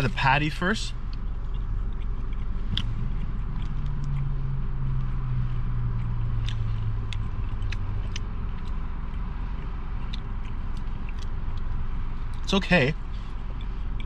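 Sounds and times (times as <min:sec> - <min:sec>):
low hum inside a car: 0:00.0 - 0:14.0
man chewing: 0:01.0 - 0:14.0.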